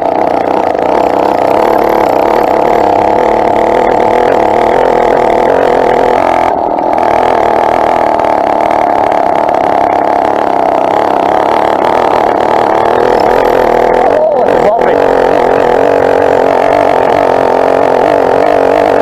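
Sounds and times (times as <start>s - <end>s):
two-stroke engine running: 0.0s - 19.0s.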